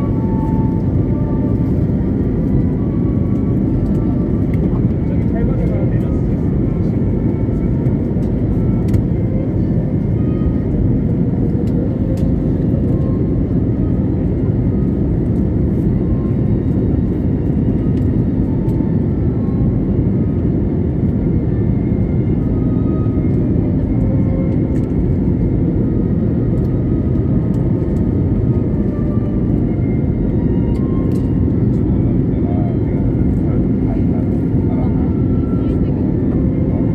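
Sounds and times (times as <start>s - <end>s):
airliner cabin engine roar: 0.0s - 36.9s.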